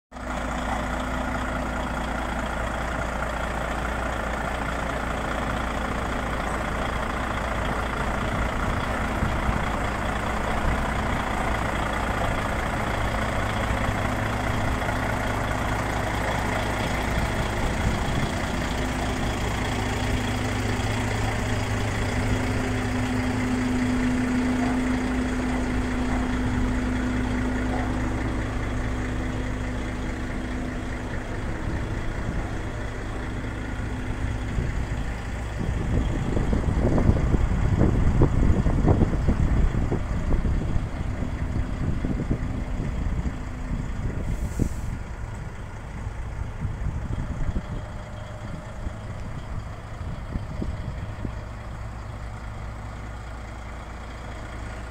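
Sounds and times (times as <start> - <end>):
truck diesel engine idling: 0.1 - 54.9.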